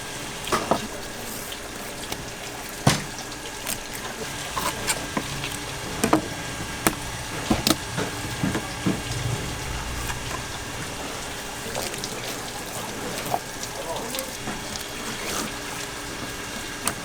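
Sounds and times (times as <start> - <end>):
running water hiss: 0.1 - 16.9.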